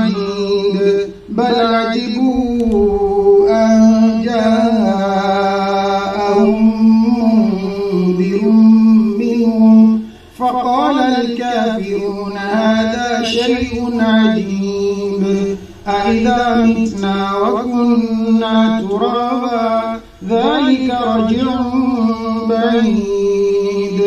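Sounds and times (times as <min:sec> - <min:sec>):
man chanting melodic recitation: 0:00.0 - 0:24.0.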